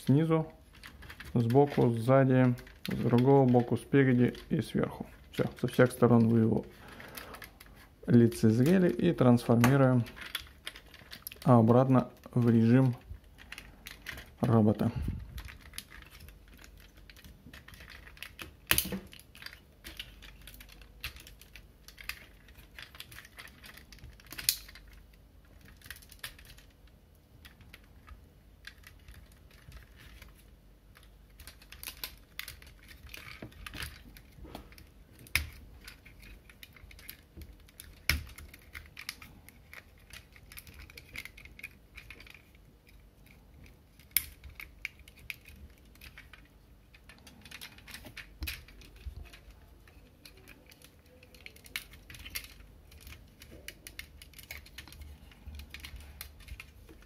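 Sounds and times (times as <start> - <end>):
plastic clicks and rattles: 0.7 - 57.0
plastic parts snapping: 8.5 - 26.8, 27.4 - 57.0.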